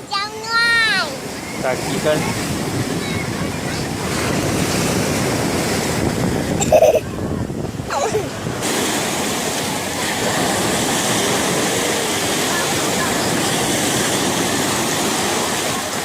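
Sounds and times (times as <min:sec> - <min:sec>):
sea waves washing ashore: 0:00.0 - 0:16.0
wind on microphone: 0:01.2 - 0:16.0.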